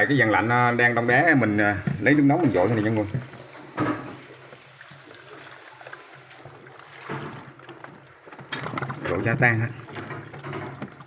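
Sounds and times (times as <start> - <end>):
hot water splashing on ice: 0.0 - 11.0.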